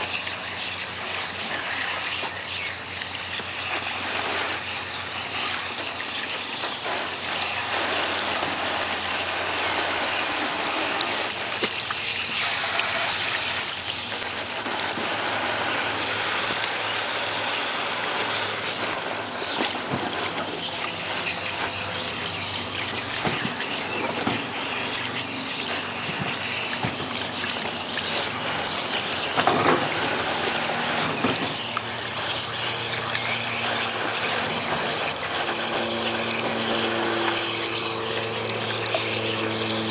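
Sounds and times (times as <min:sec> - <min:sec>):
garden hose spraying water: 0:00.0 - 0:39.9
water splashing: 0:00.0 - 0:39.9.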